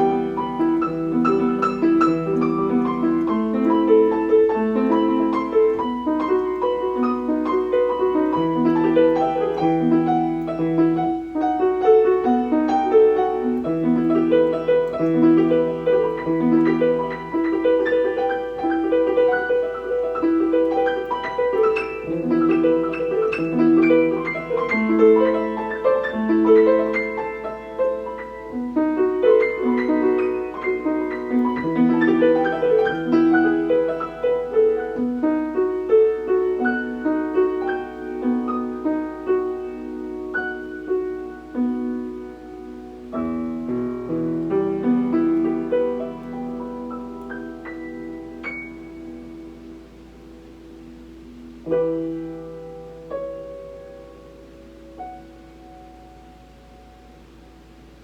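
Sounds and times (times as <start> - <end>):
piano bass line: 0.0 - 58.0
piano playing held notes: 0.0 - 58.0.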